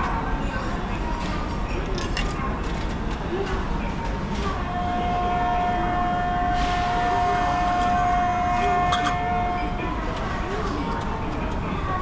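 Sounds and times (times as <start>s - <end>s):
low train rumble: 0.0s - 12.0s.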